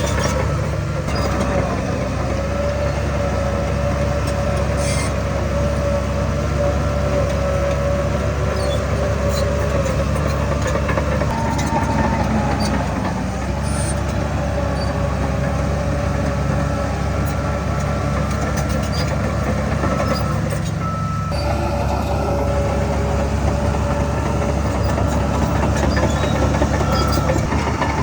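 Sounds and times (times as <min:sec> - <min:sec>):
diesel machinery engine drone: 0:00.0 - 0:28.0.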